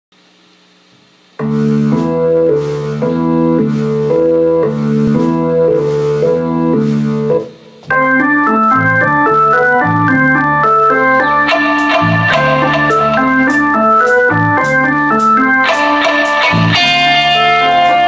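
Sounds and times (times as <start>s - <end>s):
synthesizer organ chords: 1.4s - 18.0s.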